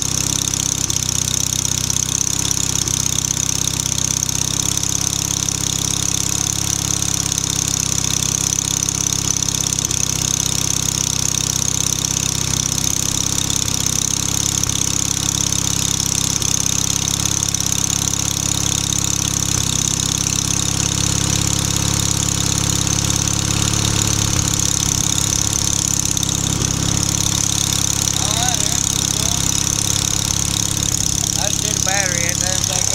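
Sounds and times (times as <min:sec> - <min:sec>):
small engine idling: 0:00.0 - 0:32.9.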